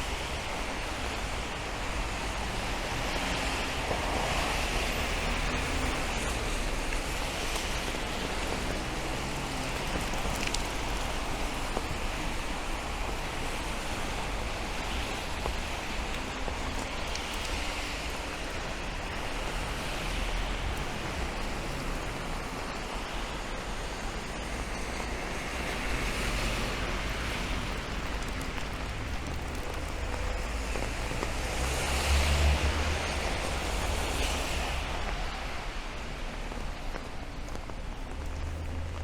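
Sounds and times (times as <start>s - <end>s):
steady rain: 0.0s - 39.0s
tyre hiss of passing vehicles: 0.0s - 39.0s.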